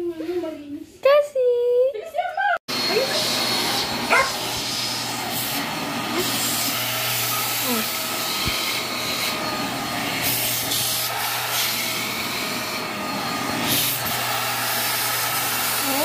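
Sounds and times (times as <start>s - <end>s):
handheld vacuum cleaner running: 2.7s - 16.0s.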